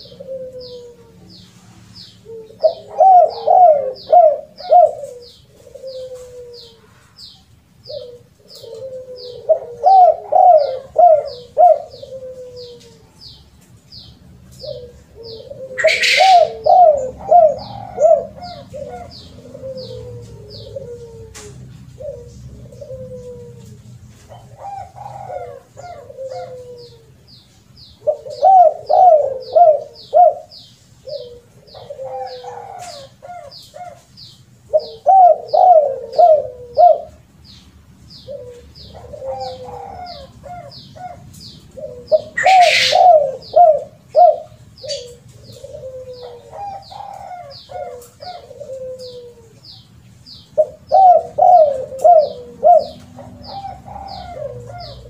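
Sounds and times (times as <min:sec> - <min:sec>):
dove cooing: 0:00.0 - 0:55.0.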